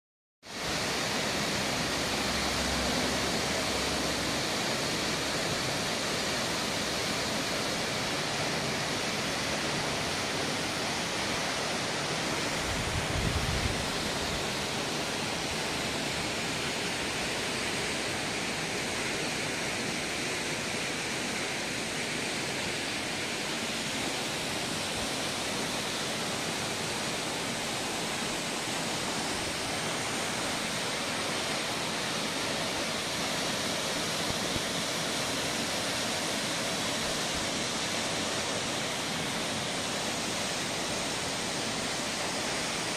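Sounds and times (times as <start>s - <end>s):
waterfall rushing: 0.5s - 42.9s.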